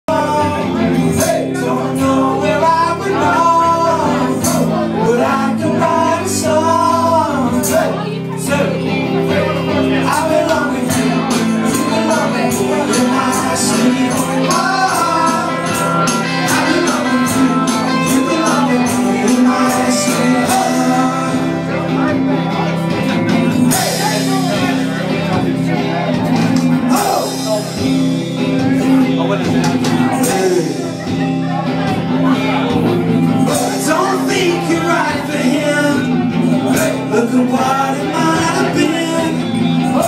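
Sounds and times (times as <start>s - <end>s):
man singing into a microphone: 0.0s - 40.0s
live band playing: 0.1s - 40.0s.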